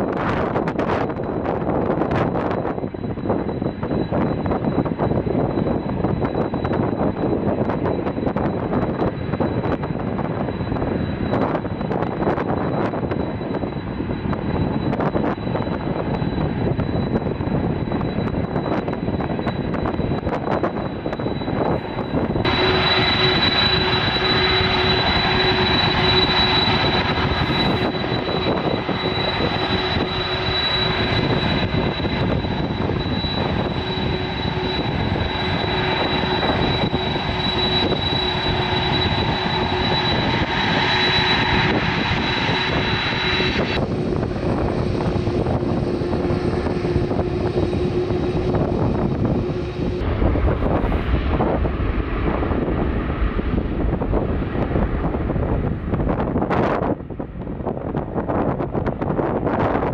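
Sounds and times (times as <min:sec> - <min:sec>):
aircraft engines rumbling: 0:00.0 - 0:59.9
high whine: 0:00.0 - 0:59.9.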